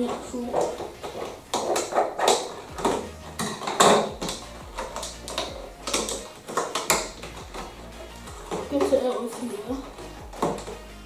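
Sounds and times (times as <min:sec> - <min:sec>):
scissors snipping plastic: 0:00.0 - 0:10.8
plastic crackling: 0:00.0 - 0:11.0.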